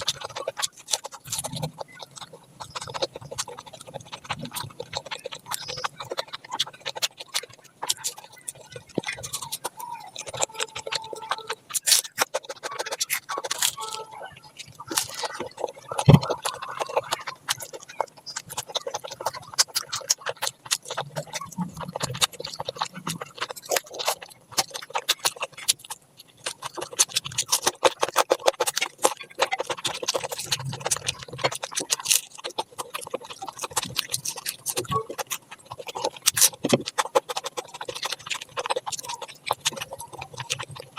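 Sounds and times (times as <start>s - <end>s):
wet chewing and mouth smacking: 0.0s - 40.9s.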